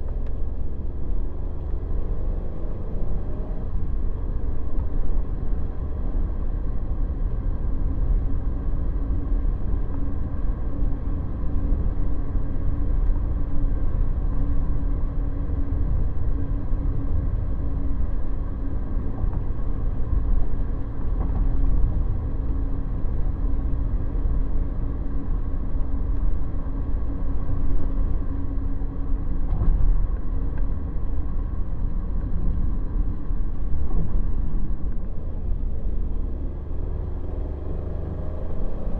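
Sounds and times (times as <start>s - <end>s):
van road and engine rumble: 0.0s - 38.9s.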